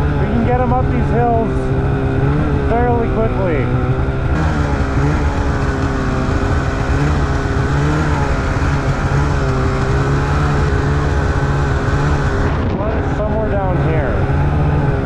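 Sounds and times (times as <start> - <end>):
rushing ride noise: 0.0 - 15.0
snowmobile engine cruising: 0.0 - 15.0.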